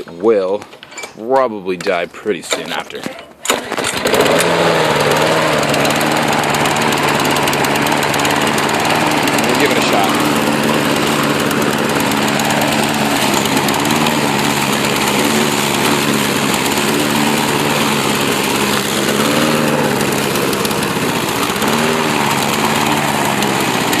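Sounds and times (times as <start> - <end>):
lawn mower engine running: 2.5 - 24.0.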